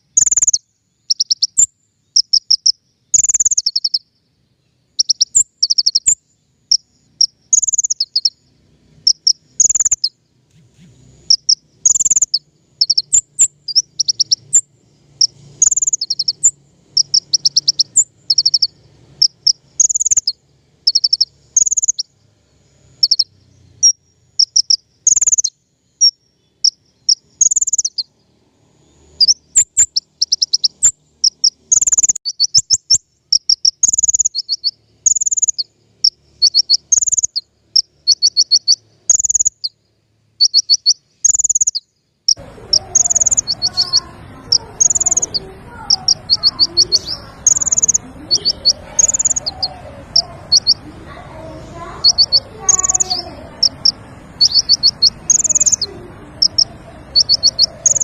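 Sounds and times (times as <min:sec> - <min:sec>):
sunbird chirps and trills: 0:00.0 - 0:58.0.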